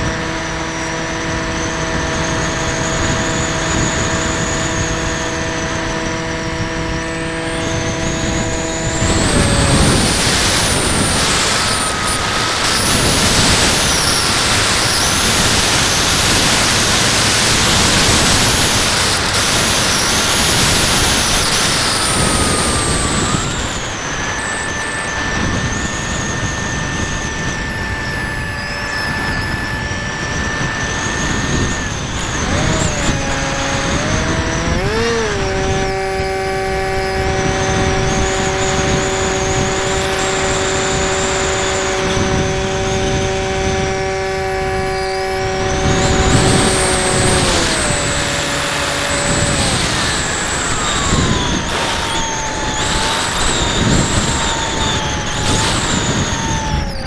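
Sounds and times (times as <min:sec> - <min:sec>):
electric motor and propeller whining: 0:00.0 - 0:57.0
wind rush on microphone: 0:00.0 - 0:57.0.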